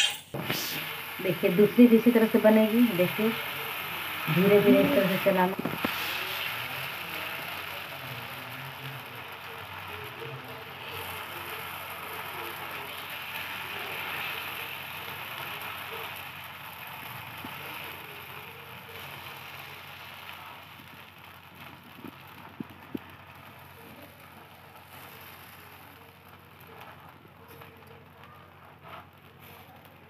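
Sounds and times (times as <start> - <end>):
batter sizzling on hot pan: 0.0 - 30.0.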